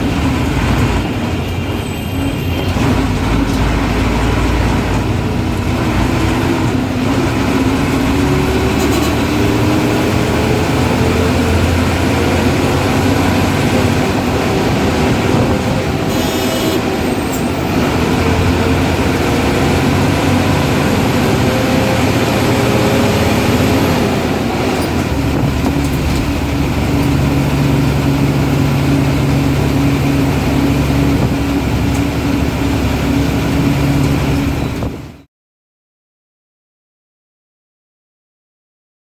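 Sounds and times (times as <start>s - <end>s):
diesel bus engine running: 0.0s - 35.3s
road noise: 0.0s - 35.3s.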